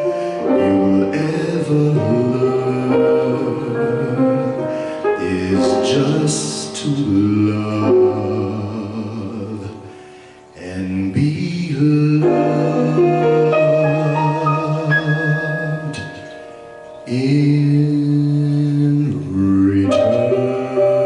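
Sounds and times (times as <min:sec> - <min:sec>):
slow ballad karaoke music: 0:00.0 - 0:21.0.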